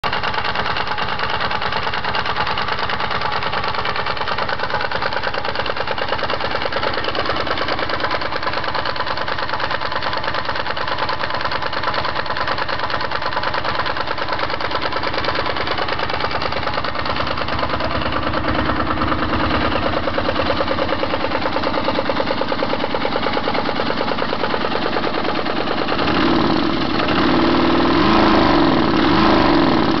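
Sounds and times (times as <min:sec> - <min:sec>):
diesel engine idling: 0:00.0 - 0:27.9.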